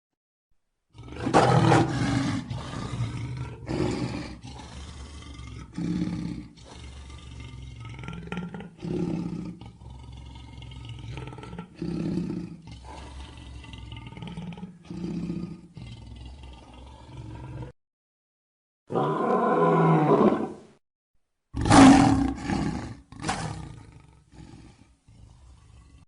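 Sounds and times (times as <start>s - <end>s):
lion roaring: 0.9s - 17.8s, 18.9s - 20.7s, 21.6s - 26.0s.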